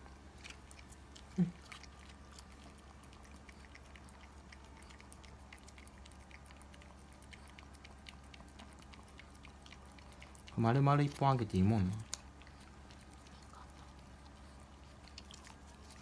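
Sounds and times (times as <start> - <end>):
dog gnawing chew stick: 0.0 - 16.0.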